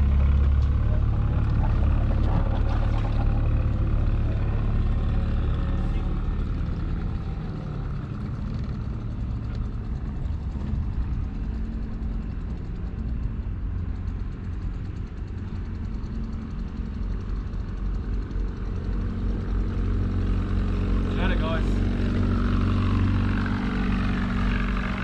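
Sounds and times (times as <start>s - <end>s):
outboard motor idling: 0.0s - 25.0s.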